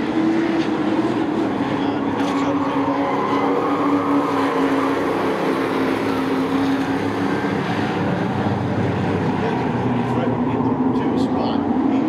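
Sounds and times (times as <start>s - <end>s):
race truck engines droning: 0.0s - 12.0s.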